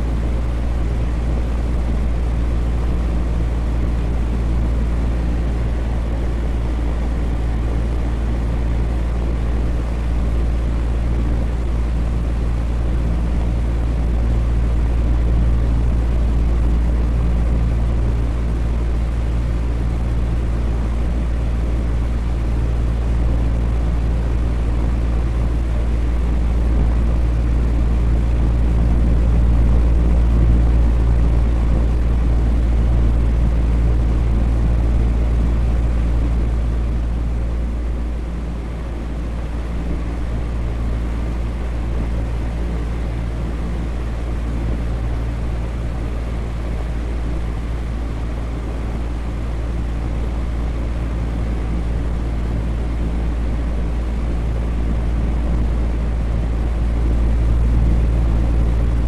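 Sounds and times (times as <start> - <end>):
electric fan running: 0.0 - 59.0.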